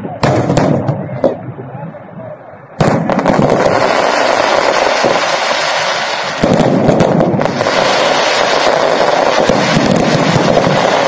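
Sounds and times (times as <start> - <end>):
fireworks crackling and popping: 0.1 - 1.7, 2.8 - 11.0.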